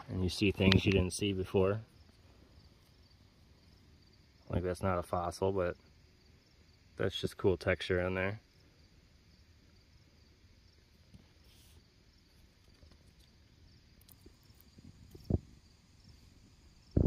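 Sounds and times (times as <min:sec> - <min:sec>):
faint insect trill: 0:00.0 - 0:17.0.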